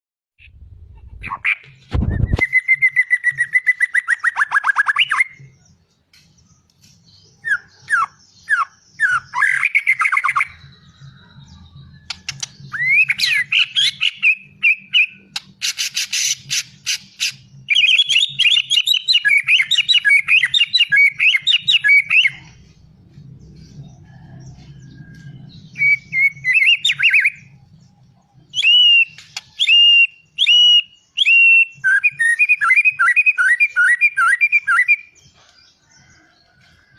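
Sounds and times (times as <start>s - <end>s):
songbird singing: 0.4s - 36.9s.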